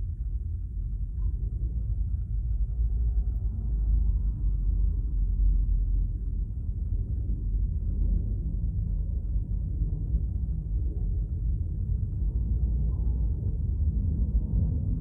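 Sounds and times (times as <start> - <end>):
low rumble inside car: 0.0 - 15.0.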